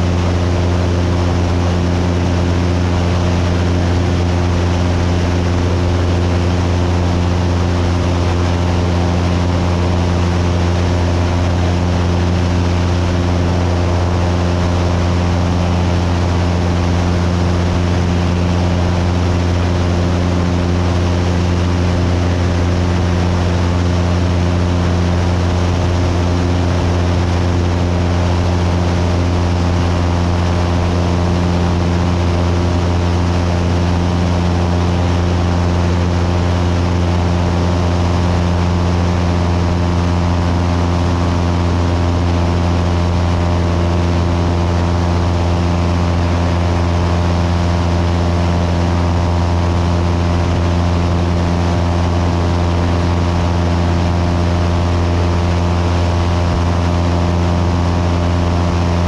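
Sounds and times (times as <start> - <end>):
plane engine droning: 0.0 - 59.0.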